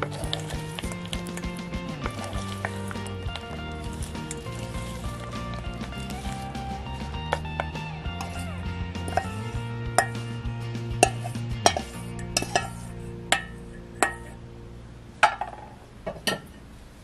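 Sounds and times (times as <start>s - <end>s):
wooden spoon knocking metal bowl: 0.0s - 14.4s
background music with held notes: 0.0s - 16.0s.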